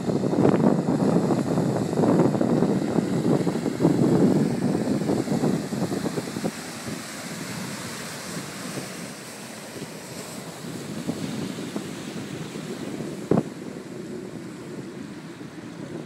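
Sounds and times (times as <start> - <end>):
water splashing and rushing: 0.0 - 16.0
wind on microphone: 0.0 - 16.0.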